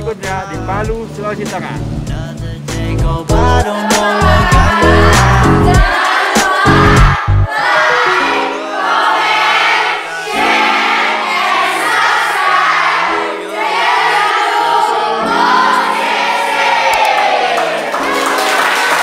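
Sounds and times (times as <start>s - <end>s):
choir singing: 3.3s - 19.0s.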